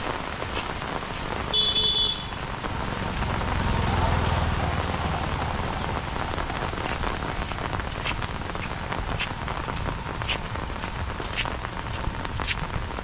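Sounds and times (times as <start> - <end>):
heavier raindrops striking: 0.0 - 13.0
steady rain falling: 0.0 - 13.0.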